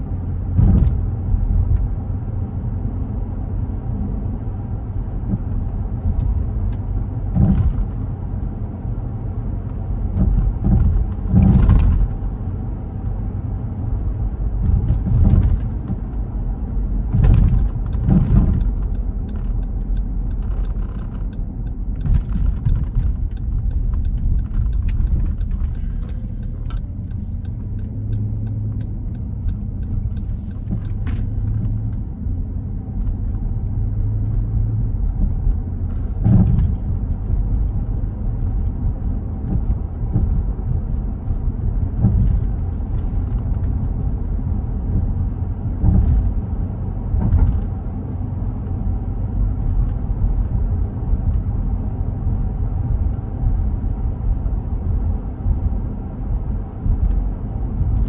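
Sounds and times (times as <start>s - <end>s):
car tyre and engine rumble: 0.0s - 58.0s.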